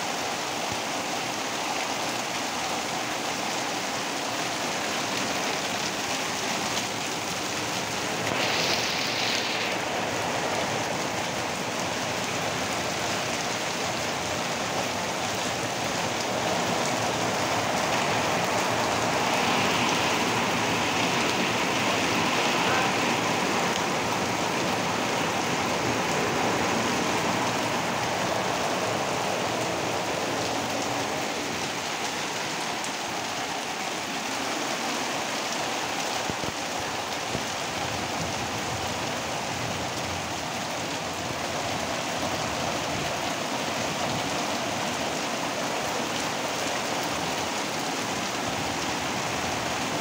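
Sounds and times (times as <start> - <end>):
heavy rain on concrete roof: 0.0 - 50.0
rain splashing into water: 0.0 - 50.0.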